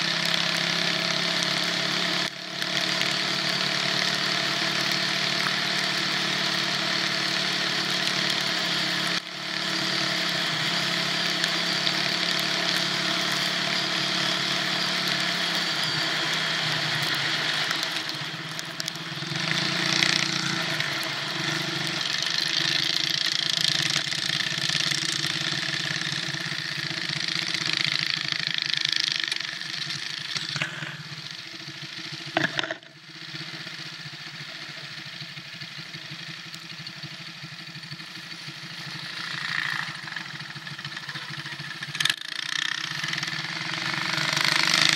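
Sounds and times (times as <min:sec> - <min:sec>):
small engine running: 0:00.0 - 0:44.9.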